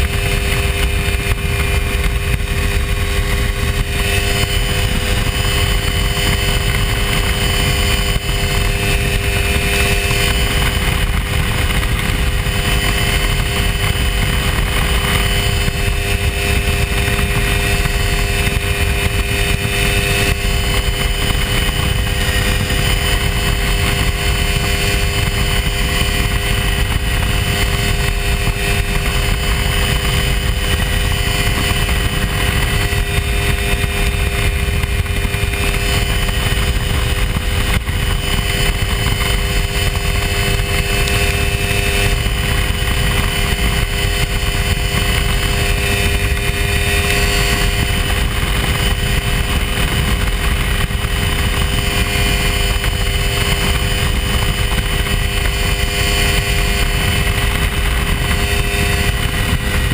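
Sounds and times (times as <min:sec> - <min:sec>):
light airplane engine droning: 0:00.0 - 0:59.9.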